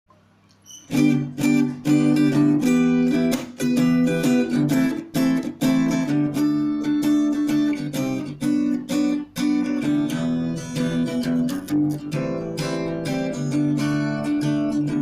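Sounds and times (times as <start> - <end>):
acoustic guitar strummed and plucked: 0.8 - 15.0.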